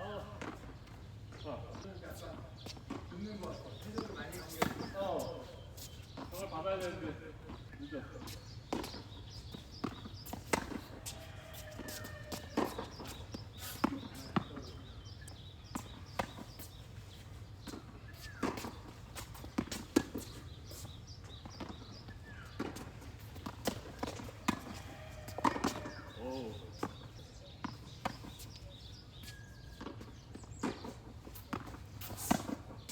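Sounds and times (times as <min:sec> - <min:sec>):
footsteps on court: 0:00.1 - 0:32.9
tennis ball bounces: 0:00.2 - 0:28.7, 0:29.5 - 0:32.9.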